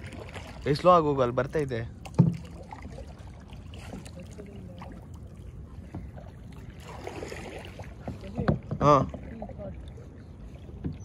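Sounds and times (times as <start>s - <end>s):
water dripping off paddle: 1.9s - 11.0s.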